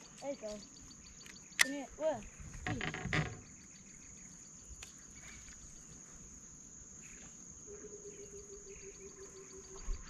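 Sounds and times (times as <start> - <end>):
insect chorus trilling: 0.0 - 10.0.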